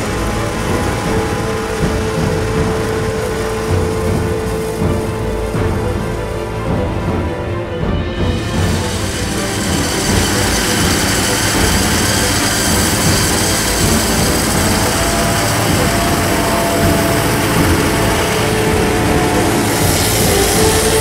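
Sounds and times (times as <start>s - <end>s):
forage harvester engine running: 0.0s - 21.0s
tractor engine: 0.0s - 21.0s.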